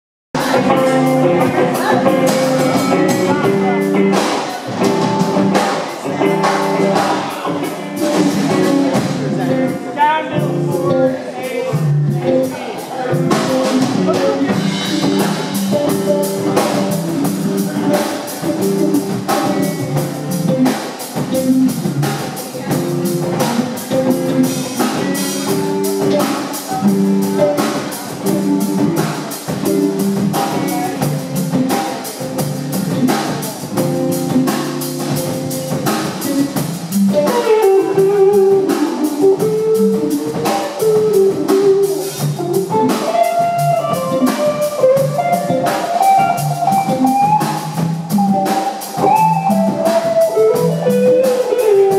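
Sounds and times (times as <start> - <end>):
drum kit beat: 0.4 - 51.9
electric bass: 0.4 - 51.9
electric guitar: 0.4 - 51.9
lead guitar bending notes: 0.4 - 51.9.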